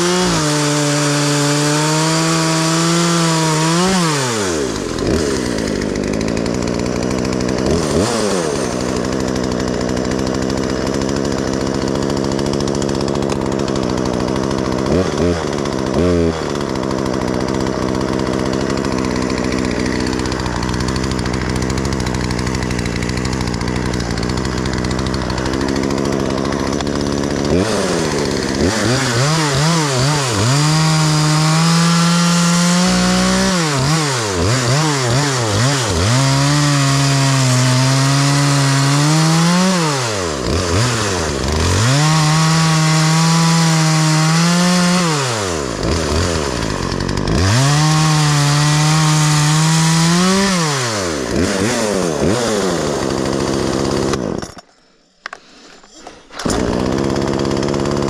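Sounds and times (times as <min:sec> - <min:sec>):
chainsaw revving: 0:00.0 - 0:54.7, 0:55.3 - 0:58.0.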